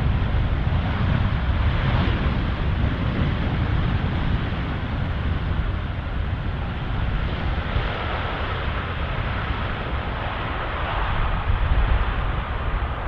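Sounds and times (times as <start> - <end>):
jet roar: 0.0 - 13.0
wind rumble on microphone: 0.0 - 13.0.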